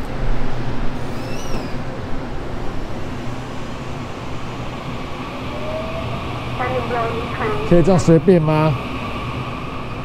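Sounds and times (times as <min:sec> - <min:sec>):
train equipment humming: 0:00.0 - 0:10.0.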